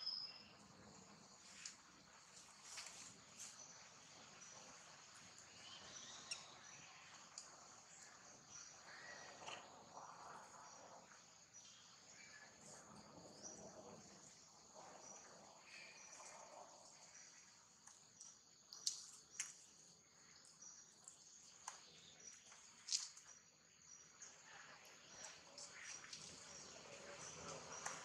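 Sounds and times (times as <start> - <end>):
insect chirring: 0.0 - 28.0
small rustles and ticks: 0.3 - 28.0.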